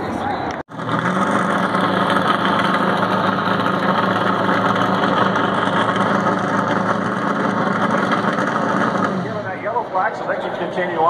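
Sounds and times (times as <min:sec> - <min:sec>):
race car engine running slowly: 0:00.7 - 0:10.0.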